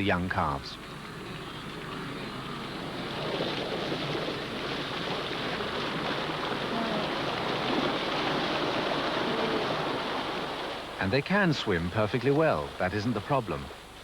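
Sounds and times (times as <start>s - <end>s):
water churning and splashing: 2.4s - 14.0s.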